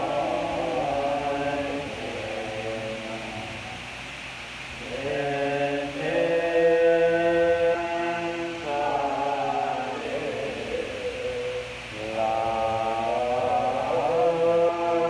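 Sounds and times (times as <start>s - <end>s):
group chanting in unison: 0.0s - 3.8s, 4.8s - 15.0s.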